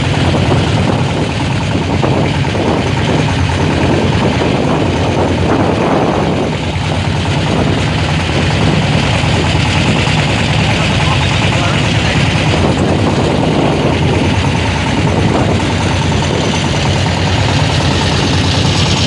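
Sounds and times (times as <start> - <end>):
boat engine chugging: 0.0 - 19.0
water and wind hiss: 0.0 - 19.0.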